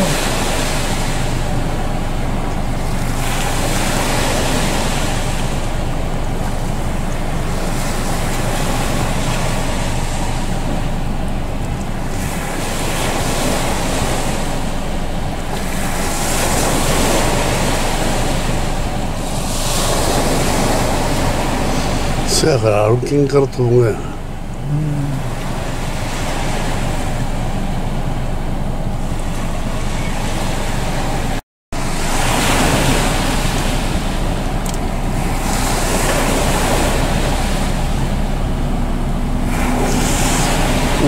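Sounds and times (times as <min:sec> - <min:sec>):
waves washing on shore: 0:00.0 - 0:41.0.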